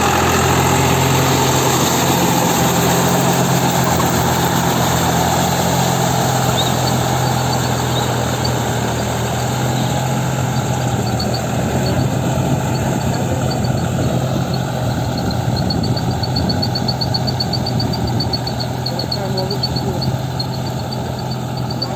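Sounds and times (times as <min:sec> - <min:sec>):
rapid high-pitched ticking: 0:00.0 - 0:21.9
tractor diesel engine running: 0:00.0 - 0:21.9.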